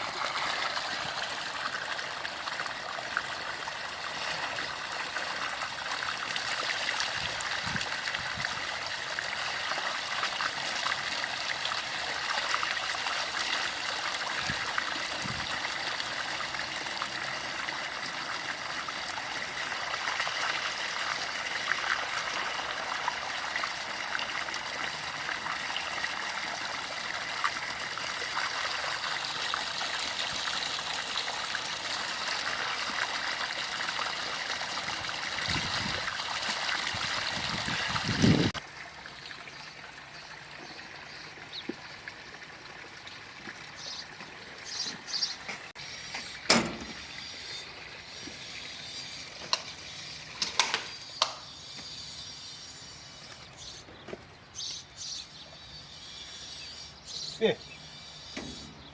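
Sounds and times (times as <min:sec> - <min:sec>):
running water with splashes: 0:00.0 - 0:58.9.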